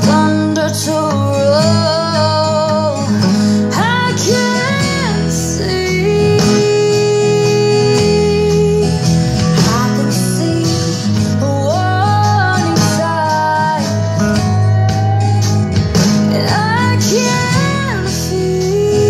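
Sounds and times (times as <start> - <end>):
person singing: 0.0 - 19.0
strummed acoustic guitar: 0.0 - 19.0.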